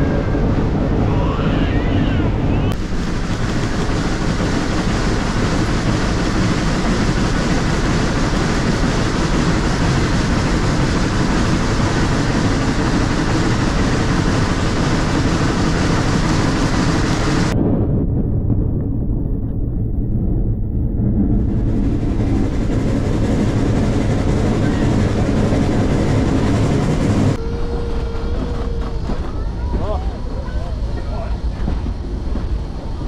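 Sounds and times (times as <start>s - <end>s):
train rumble and rattle: 0.0s - 33.0s.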